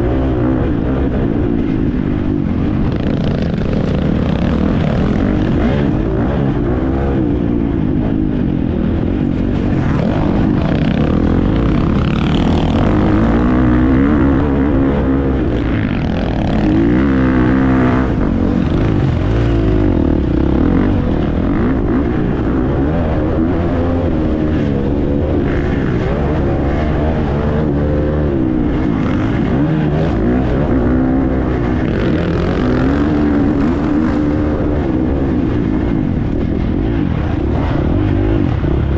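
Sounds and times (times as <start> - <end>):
motocross engine revving: 0.0 - 38.9.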